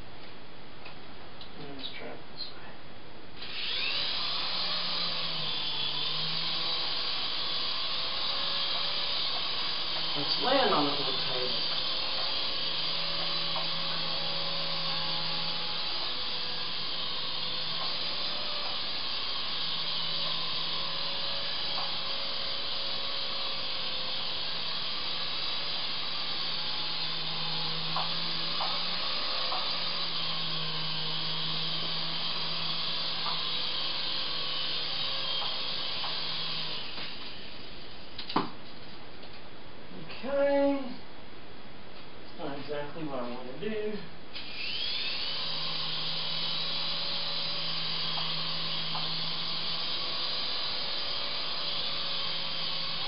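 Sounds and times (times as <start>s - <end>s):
toy helicopter rotors whirring: 3.4s - 37.8s, 44.4s - 53.0s.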